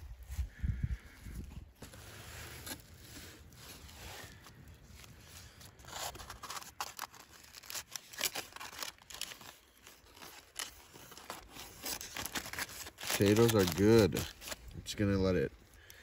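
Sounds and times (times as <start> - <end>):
foil crinkling and tearing: 1.9 - 16.0.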